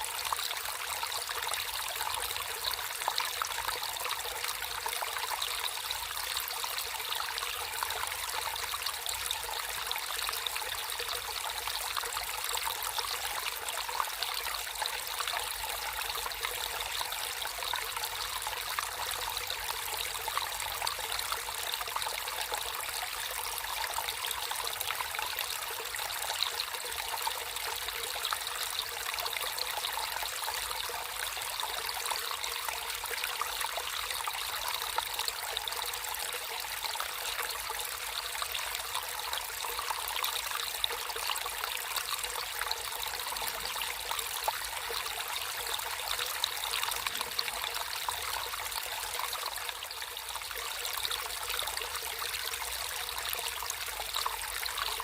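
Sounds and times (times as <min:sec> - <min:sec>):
stream water trickling: 0:00.0 - 0:55.0.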